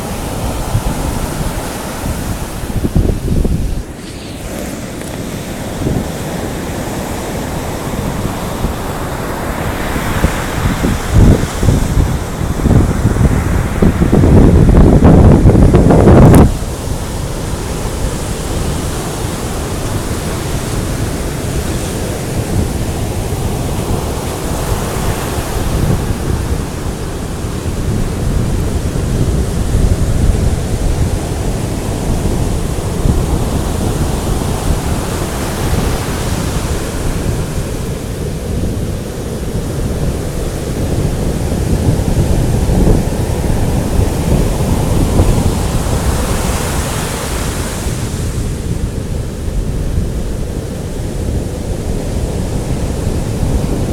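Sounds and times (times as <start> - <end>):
surf breaking on beach: 0.0 - 53.9
wind buffeting microphone: 0.0 - 53.9.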